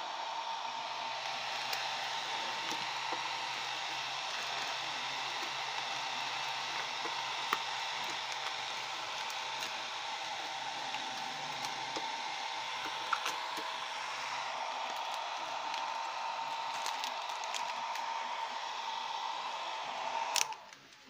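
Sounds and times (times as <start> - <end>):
hair dryer running: 0.0 - 20.8.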